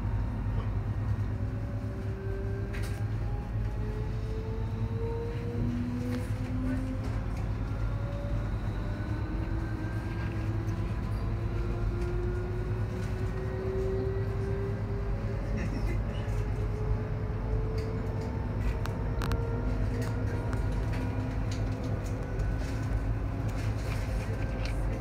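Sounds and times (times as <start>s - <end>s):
train cabin rumble: 0.0s - 25.0s.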